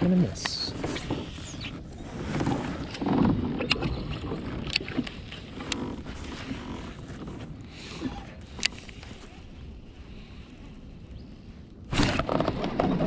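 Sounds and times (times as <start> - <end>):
water around kayak: 0.0 - 13.0.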